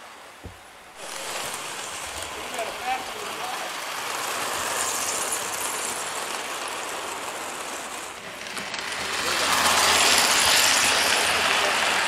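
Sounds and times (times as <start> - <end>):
model train whir and clatter: 0.0 - 12.0.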